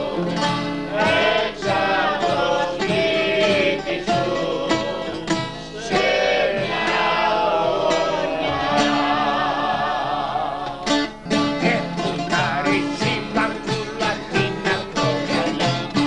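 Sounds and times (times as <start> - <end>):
acoustic guitars: 0.0 - 16.0
bouzouki: 0.0 - 16.0
people singing together: 0.0 - 16.0.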